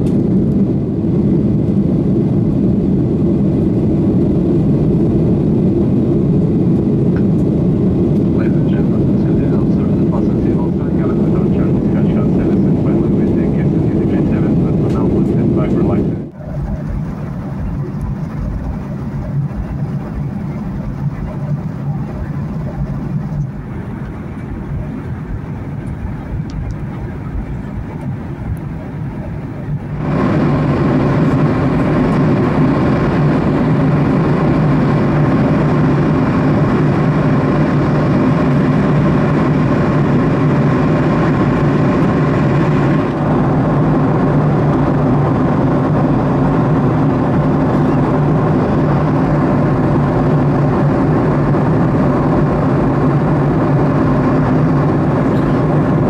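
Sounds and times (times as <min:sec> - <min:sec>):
jet airliner cabin drone: 0:00.0 - 0:56.0
low hum: 0:00.0 - 0:56.0.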